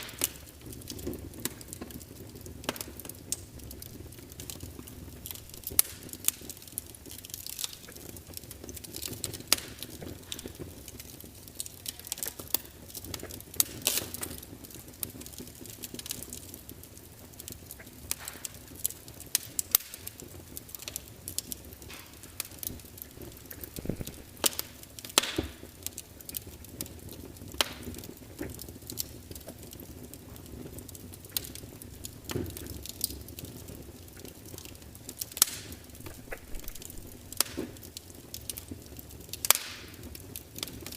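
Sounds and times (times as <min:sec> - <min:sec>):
hiss and rumble of flames: 0:00.0 - 0:40.9
wood fire crackling and popping: 0:00.0 - 0:40.9.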